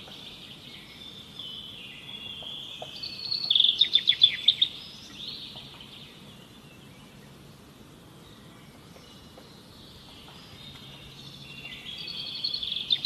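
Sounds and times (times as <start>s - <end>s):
faint insects: 0.0s - 13.0s
wild birds chirping: 0.0s - 13.0s.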